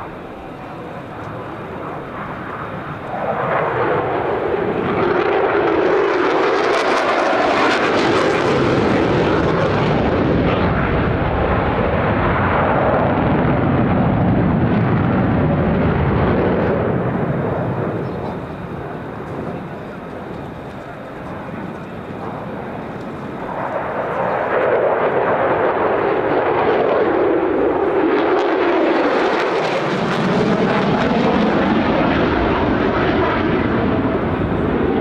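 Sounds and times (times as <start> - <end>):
jet engine roaring: 0.0 - 35.0.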